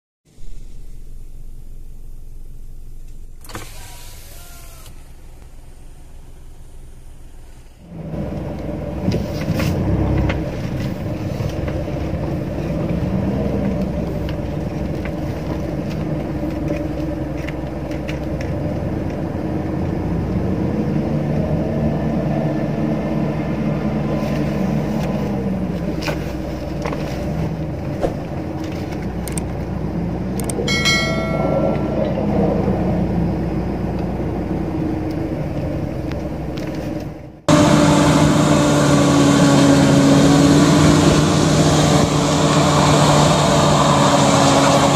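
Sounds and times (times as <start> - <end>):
pickup engine revving: 0.3 - 44.9.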